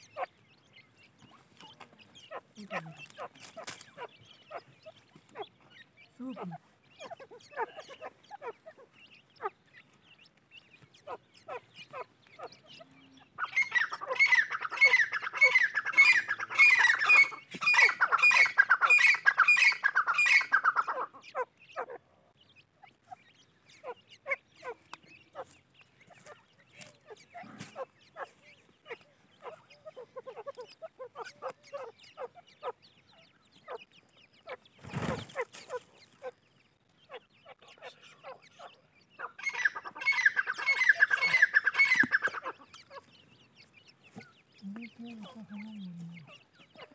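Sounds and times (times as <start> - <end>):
bird squawking calls: 0.0 - 10.2, 10.8 - 46.9
chick peeps: 0.0 - 46.9.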